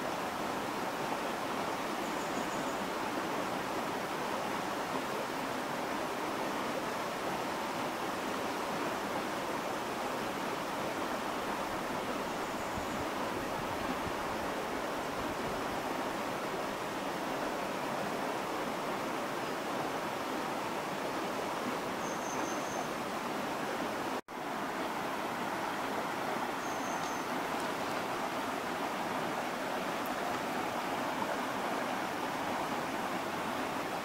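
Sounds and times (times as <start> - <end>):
stream flowing over rocks: 0.0 - 34.0.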